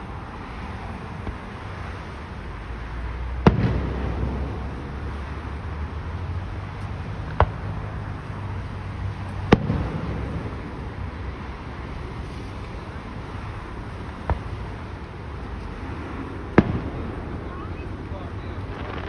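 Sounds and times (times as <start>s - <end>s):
fireworks bursting with bangs: 0.0s - 19.0s
low rumbling echo: 3.4s - 19.0s.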